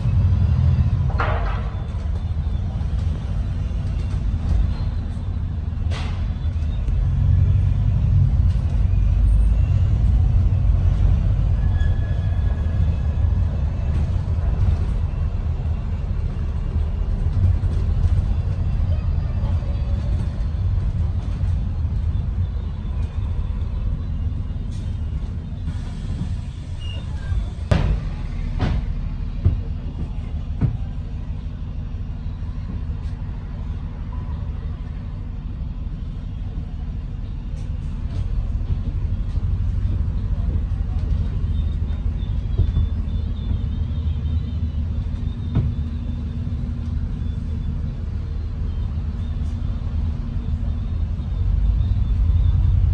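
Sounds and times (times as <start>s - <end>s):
bus engine and road rumble: 0.0s - 52.9s.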